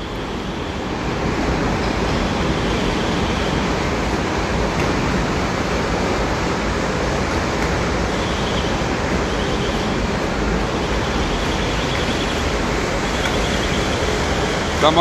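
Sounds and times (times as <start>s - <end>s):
factory machinery rushing: 0.0s - 15.0s.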